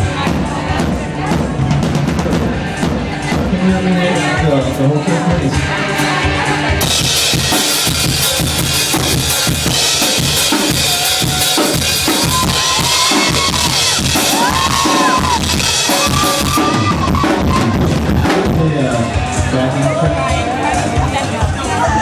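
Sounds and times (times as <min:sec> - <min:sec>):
drum kit playing loud: 0:00.0 - 0:22.0.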